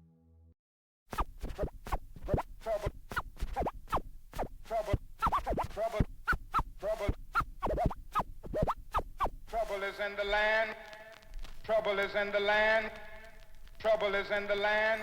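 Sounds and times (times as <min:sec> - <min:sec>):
record scratching on turntable: 0:01.1 - 0:14.7.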